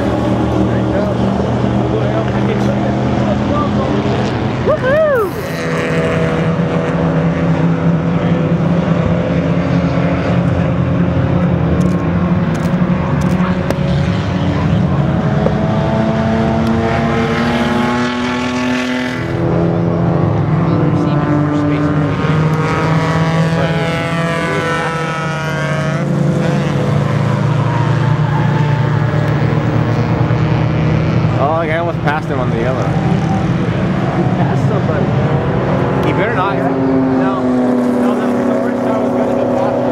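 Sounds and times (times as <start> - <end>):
race car engines droning: 0.0 - 39.9.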